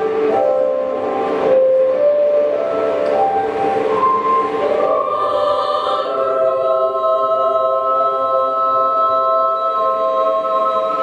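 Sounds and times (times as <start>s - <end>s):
children's choir singing a cappella: 0.0s - 11.0s.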